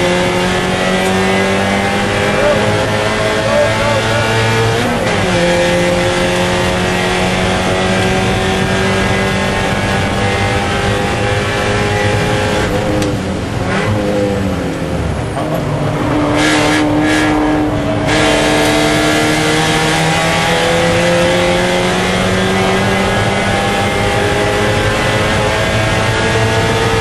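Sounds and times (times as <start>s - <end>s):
race car engine under load: 0.0s - 27.0s.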